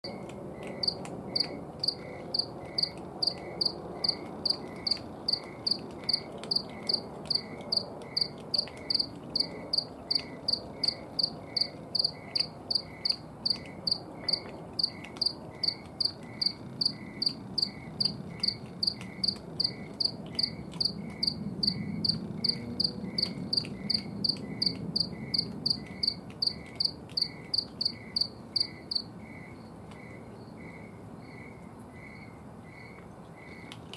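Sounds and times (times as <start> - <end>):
high cricket chirping: 0.0 - 33.8
lower cricket chirping slowly: 0.0 - 33.9.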